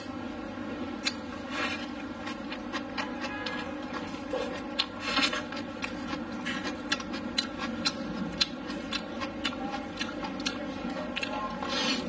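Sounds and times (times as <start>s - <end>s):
person chewing food: 0.9s - 12.0s.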